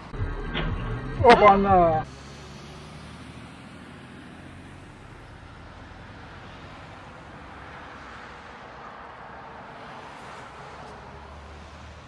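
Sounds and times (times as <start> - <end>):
vehicle road noise rumble: 0.0 - 12.0.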